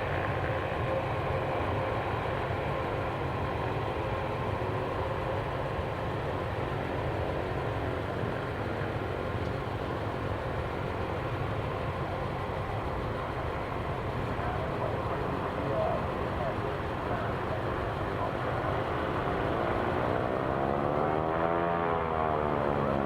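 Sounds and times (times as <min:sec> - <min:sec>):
faint steady tones: 0:00.0 - 0:20.3
jet engines running: 0:00.0 - 0:21.1.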